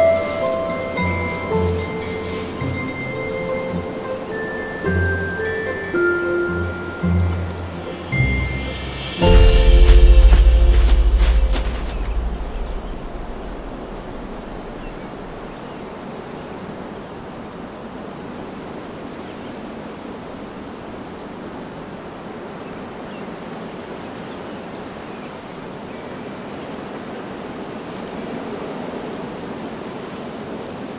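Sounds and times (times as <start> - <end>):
rushing outdoor ambience: 0.0 - 30.9.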